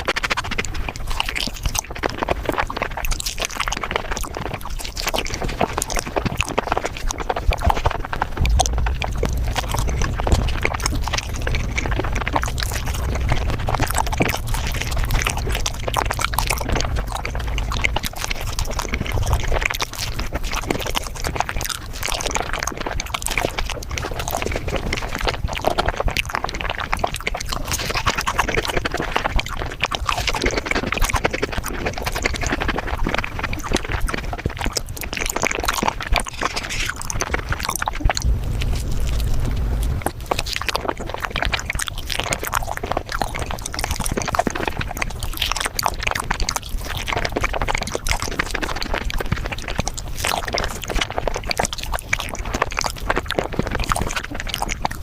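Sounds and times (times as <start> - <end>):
sped-up eating and chewing sounds: 0.0 - 55.0.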